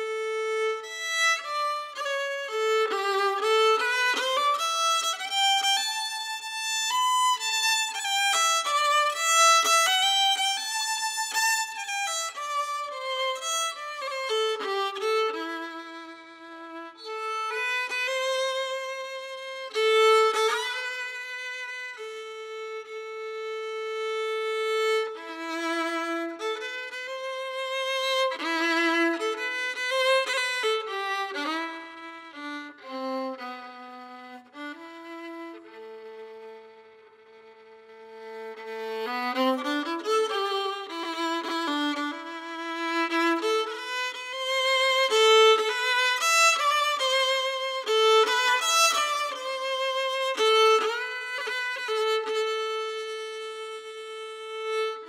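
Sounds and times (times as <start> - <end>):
solo fiddle folk tune: 0.0 - 55.0.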